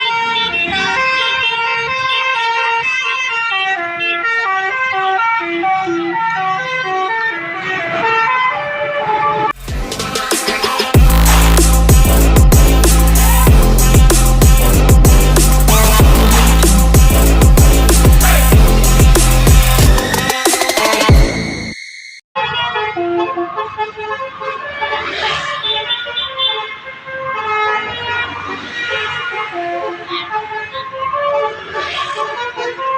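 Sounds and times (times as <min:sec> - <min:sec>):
multi-tone bus horn melody: 0:00.0 - 0:21.6, 0:22.4 - 0:32.9.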